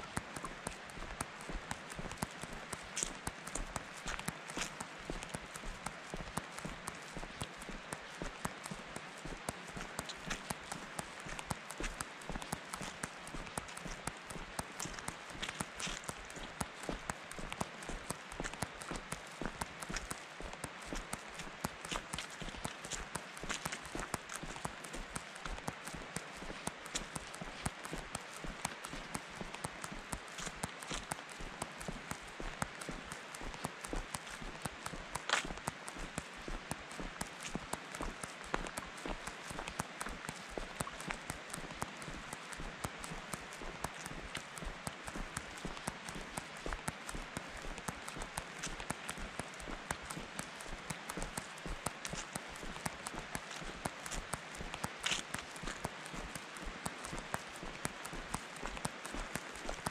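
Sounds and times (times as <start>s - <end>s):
steady rushing hiss: 0.0s - 59.9s
footsteps crunching on gravel: 0.4s - 59.9s.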